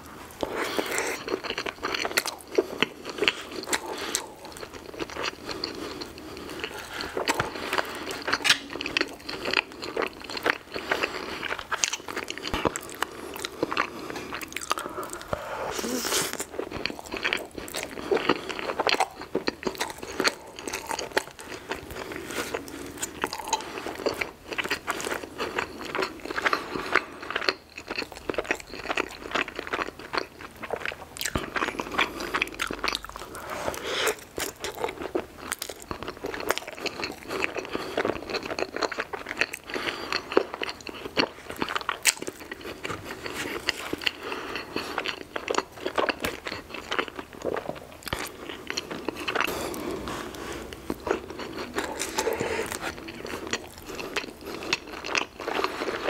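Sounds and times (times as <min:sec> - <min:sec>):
close chewing and biting: 0:00.0 - 0:56.0.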